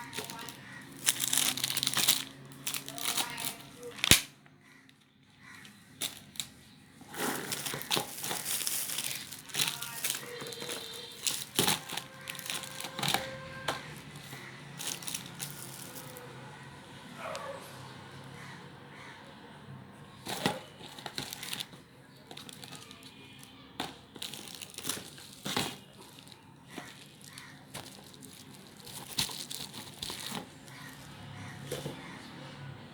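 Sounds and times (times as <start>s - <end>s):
plastic packaging crinkling: 0.0s - 4.8s, 5.4s - 16.3s, 20.3s - 32.2s.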